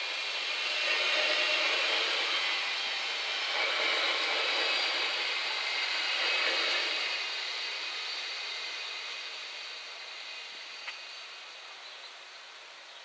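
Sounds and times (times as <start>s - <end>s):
train wheels rushing past: 0.0s - 12.4s.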